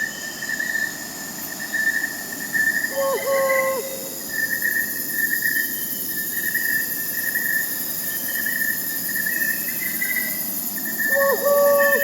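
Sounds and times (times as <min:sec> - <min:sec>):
crickets chirping: 0:00.0 - 0:12.0
high insect drone: 0:00.0 - 0:12.0.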